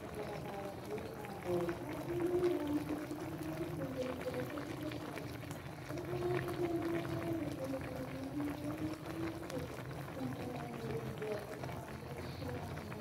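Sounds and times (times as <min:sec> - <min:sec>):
broth bubbling and crackling: 0:00.0 - 0:13.0.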